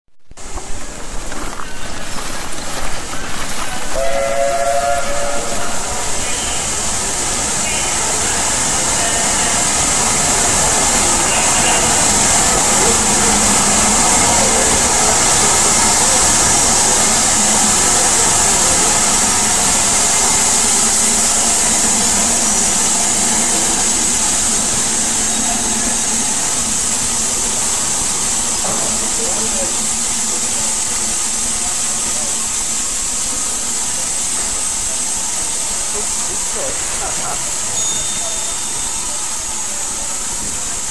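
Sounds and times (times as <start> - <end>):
steam train hissing: 0.4 - 40.9.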